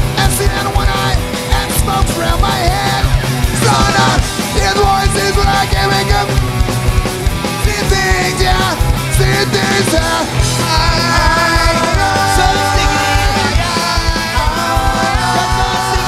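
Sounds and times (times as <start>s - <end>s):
drums: 0.0s - 16.0s
electric guitars: 0.0s - 16.0s.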